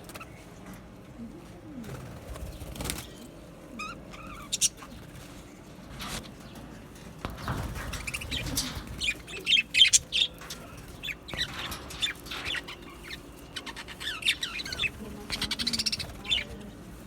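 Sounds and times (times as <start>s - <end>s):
budgerigars chirping and chattering: 2.1s - 5.4s, 6.0s - 17.0s.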